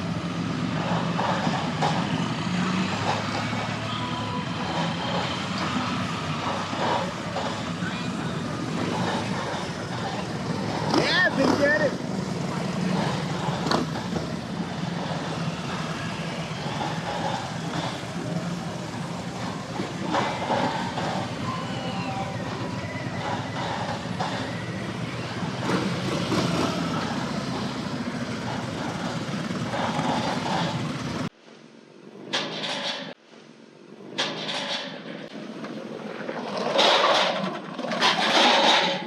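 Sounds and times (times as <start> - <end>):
motorcycles and traffic engines: 0.0 - 39.0.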